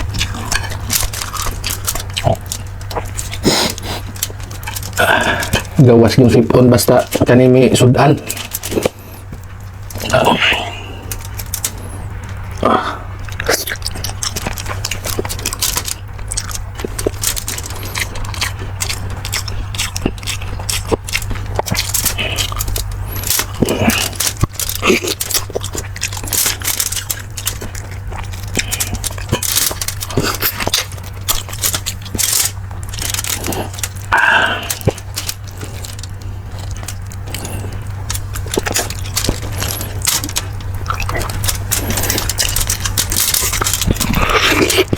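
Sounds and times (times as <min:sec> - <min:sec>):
low hum: 0:00.0 - 0:44.9
person chewing with wet smacks: 0:00.0 - 0:44.9.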